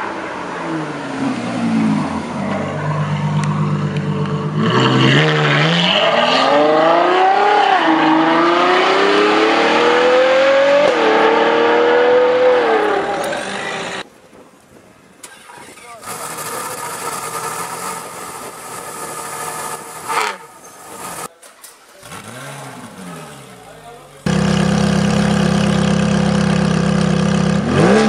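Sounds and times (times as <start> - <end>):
car engine revving: 1.1 - 14.0, 15.4 - 21.3, 22.0 - 28.0.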